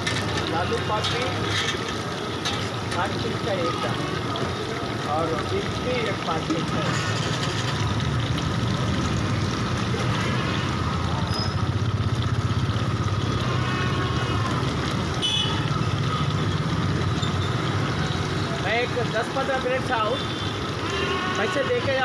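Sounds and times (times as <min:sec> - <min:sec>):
gas burner rumbling: 0:00.0 - 0:21.1
hot oil sizzling and bubbling: 0:00.0 - 0:22.0.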